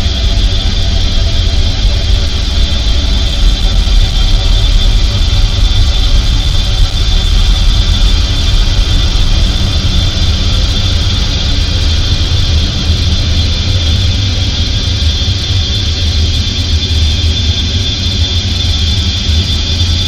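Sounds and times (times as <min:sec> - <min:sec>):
ambient noise drone: 0:00.0 - 0:20.0.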